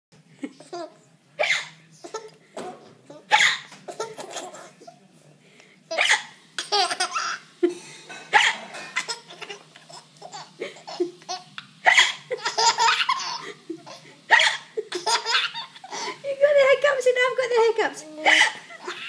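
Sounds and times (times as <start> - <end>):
baby giggling: 0.5 - 5.0, 5.9 - 16.2, 18.1 - 19.0.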